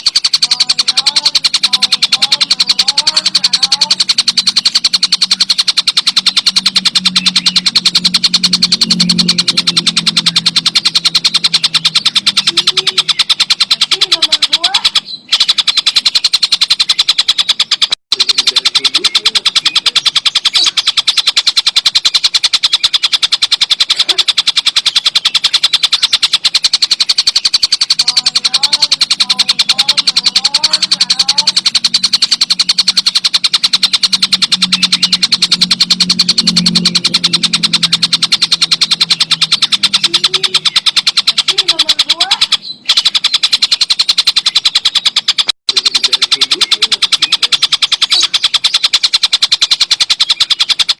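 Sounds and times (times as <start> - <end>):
kingfisher chattering rattle: 0.0 - 50.9.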